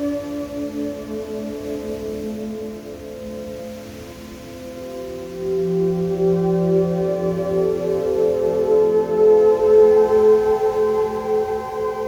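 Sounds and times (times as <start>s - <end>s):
background music of held chords: 0.0s - 12.0s.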